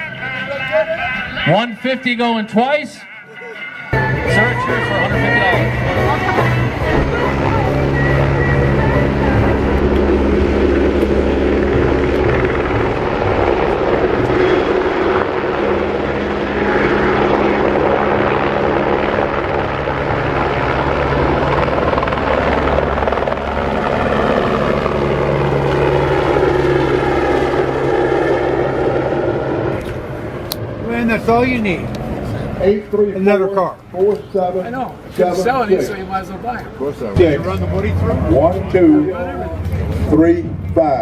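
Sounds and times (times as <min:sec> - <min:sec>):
large engine droning: 0:03.0 - 0:33.5, 0:35.0 - 0:41.0.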